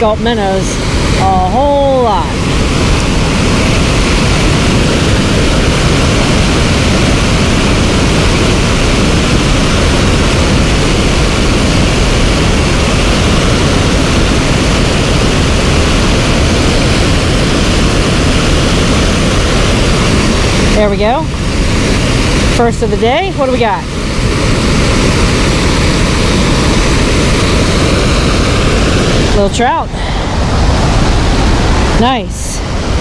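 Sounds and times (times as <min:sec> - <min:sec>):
water rushing over spillway: 0:00.0 - 0:33.0.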